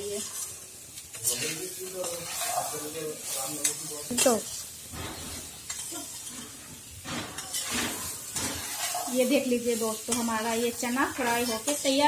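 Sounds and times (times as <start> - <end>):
light sizzle of frying: 0.0 - 12.0
metal spoon scraping a pan: 0.0 - 12.0.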